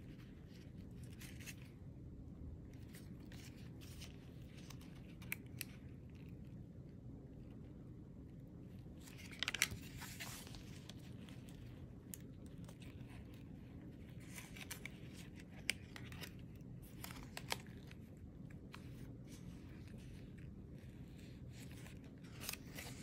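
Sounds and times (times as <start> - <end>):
pages rustling and crinkling: 0.0 - 1.8, 2.7 - 6.6, 8.6 - 23.0
low steady hum: 0.0 - 23.0.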